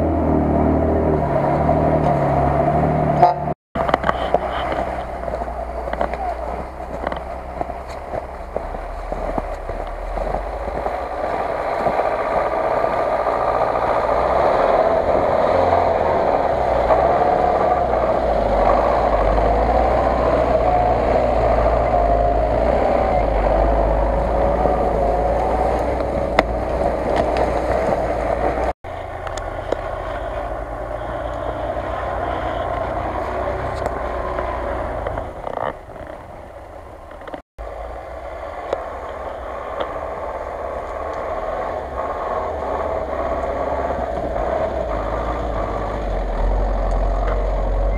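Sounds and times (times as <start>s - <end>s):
truck engine working hard: 0.0s - 47.9s.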